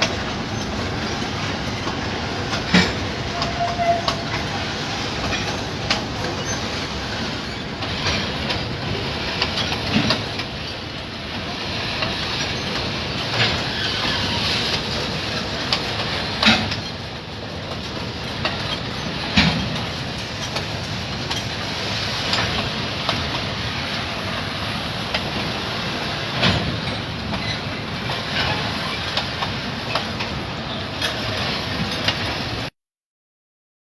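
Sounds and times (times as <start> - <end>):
freight train rumbling: 0.0 - 32.7
wheels clacking over rail joints: 0.0 - 32.7.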